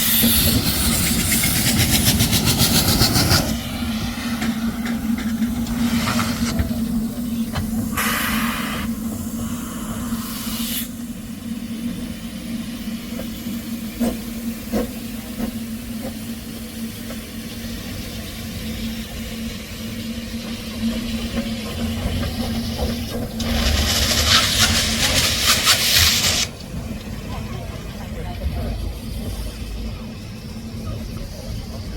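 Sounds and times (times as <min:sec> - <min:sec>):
steam hissing: 0:00.0 - 0:31.9
steam locomotive humming: 0:00.0 - 0:31.9.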